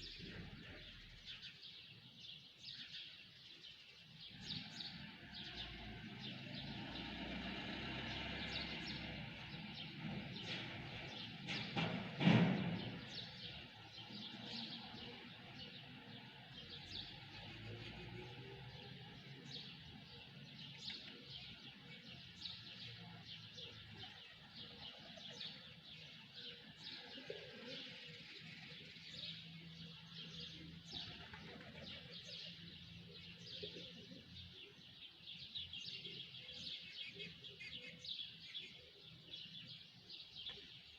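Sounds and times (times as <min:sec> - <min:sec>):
small birds chirping: 0:00.0 - 0:11.9, 0:12.6 - 0:40.9.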